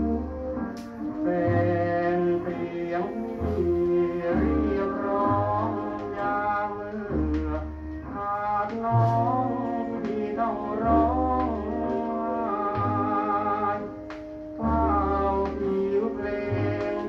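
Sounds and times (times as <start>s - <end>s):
man singing with vibrato: 1.1s - 14.0s, 14.6s - 17.0s.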